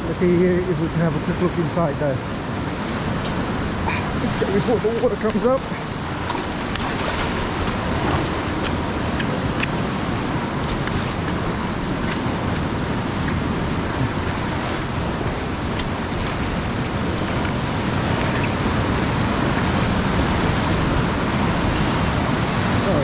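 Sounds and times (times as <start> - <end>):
ocean surf washing onto beach: 0.0 - 23.0
wind rumbling on microphone: 2.2 - 23.0.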